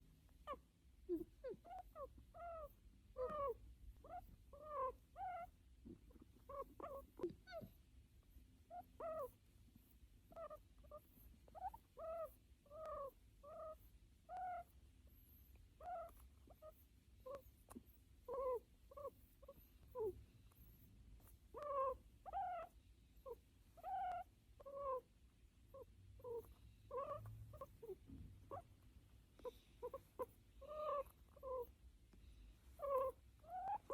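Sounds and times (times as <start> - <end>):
guinea pig squeaking: 0.3 - 28.8, 29.4 - 31.8, 32.7 - 33.9.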